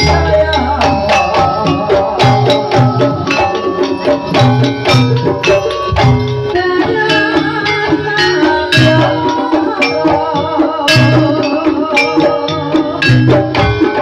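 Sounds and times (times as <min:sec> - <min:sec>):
drums beating fast rhythm: 0:00.0 - 0:14.0
wavering melody: 0:00.0 - 0:14.0.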